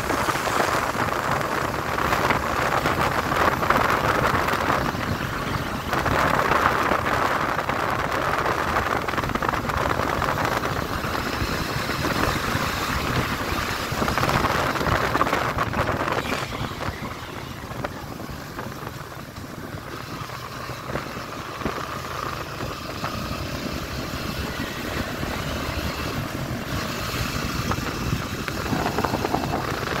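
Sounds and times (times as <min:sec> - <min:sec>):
motorcycle engine: 0:00.0 - 0:30.0
road noise: 0:00.0 - 0:30.0
wind rush: 0:00.0 - 0:30.0.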